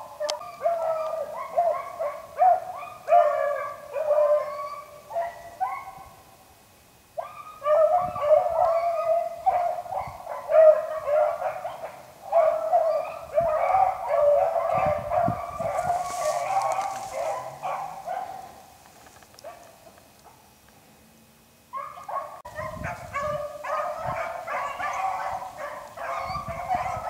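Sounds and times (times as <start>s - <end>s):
hounds baying: 0.0s - 6.2s, 7.2s - 18.8s, 21.7s - 27.0s.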